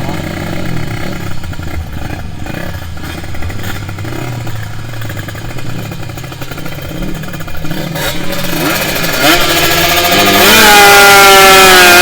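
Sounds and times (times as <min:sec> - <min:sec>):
two-stroke engine running: 0:00.0 - 0:12.0.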